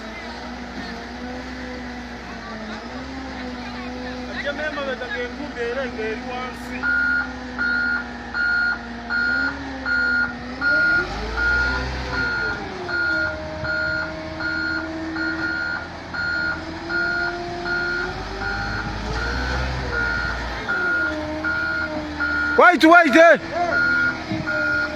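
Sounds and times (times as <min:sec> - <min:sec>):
diesel engine revving: 0:00.0 - 0:24.9.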